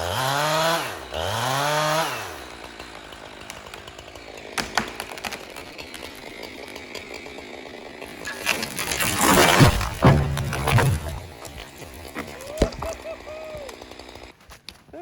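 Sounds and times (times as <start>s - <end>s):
chainsaw revving: 0.0s - 14.4s.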